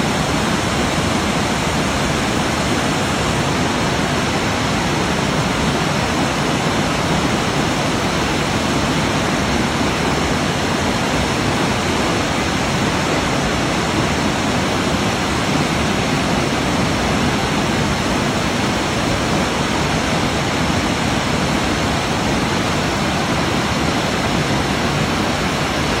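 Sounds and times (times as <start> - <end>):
waterfall cascading: 0.0 - 26.0.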